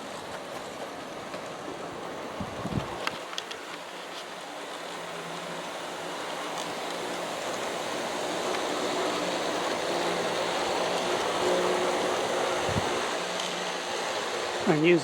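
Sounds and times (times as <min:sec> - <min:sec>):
faint motor hum: 0:00.0 - 0:15.0
model train wheels rumbling on rail: 0:00.0 - 0:15.0.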